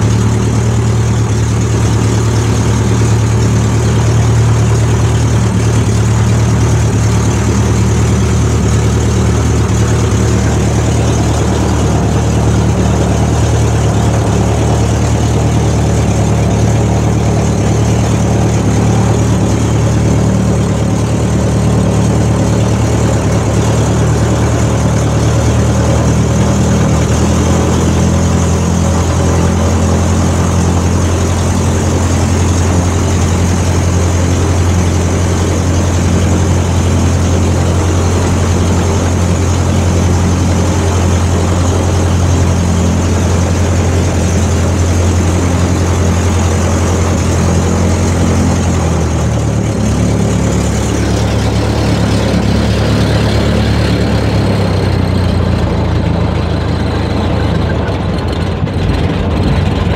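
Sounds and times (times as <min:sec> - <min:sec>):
propeller aircraft engine running: 0:00.0 - 0:59.9.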